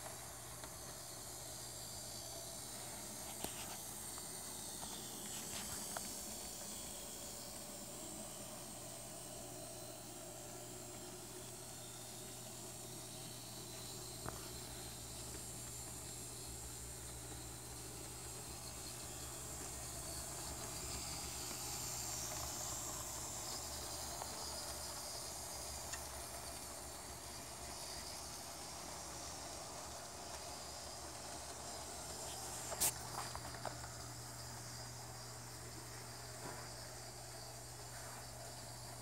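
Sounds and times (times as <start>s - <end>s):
model train motor whine: 0.0s - 39.0s.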